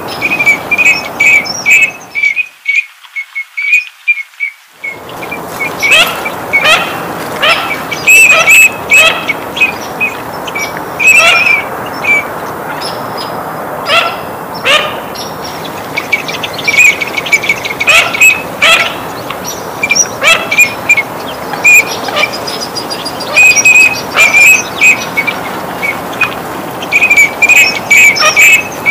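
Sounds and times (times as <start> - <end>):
ducks giving high whistled calls: 0.0 - 13.0, 13.8 - 28.9.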